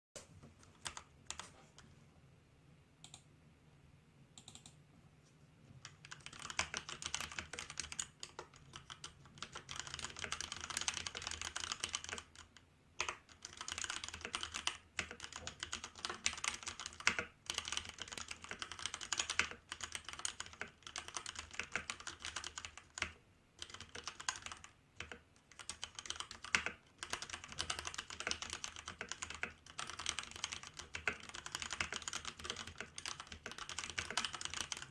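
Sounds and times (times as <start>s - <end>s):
mechanical keyboard typing: 0.6s - 1.5s, 4.4s - 4.8s, 5.8s - 34.9s.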